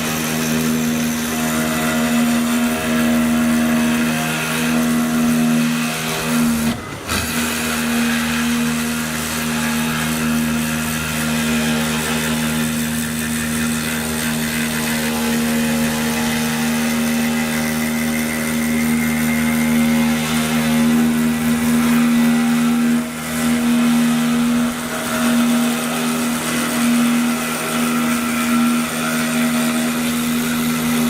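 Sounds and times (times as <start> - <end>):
milling machine motor hum: 0.0 - 31.0.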